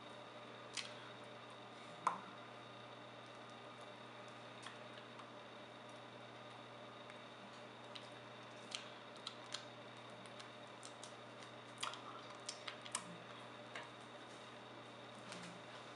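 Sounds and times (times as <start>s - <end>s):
low hiss and hum: 0.0s - 15.9s.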